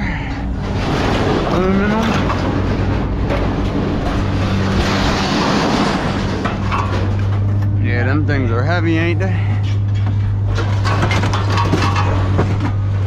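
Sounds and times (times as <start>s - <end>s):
metallic rattling and scraping: 0.0s - 13.0s
vehicle engine running: 0.0s - 13.0s.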